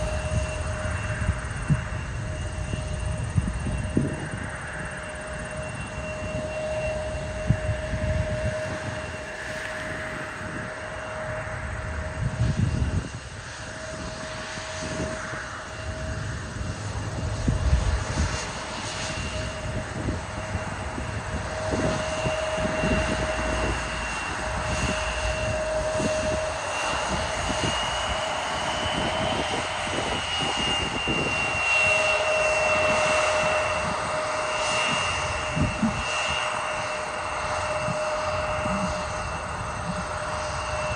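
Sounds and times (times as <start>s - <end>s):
jet engines whining: 0.0s - 40.9s
wind buffeting microphone: 0.0s - 40.9s.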